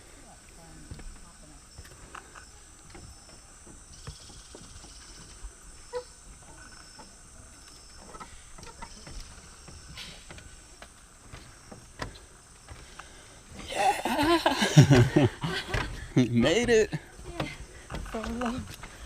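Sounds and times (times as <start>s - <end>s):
footsteps on rope bridge deck: 0.0s - 19.0s
insects buzzing: 0.0s - 19.0s
rope bridge creaking: 0.8s - 19.0s.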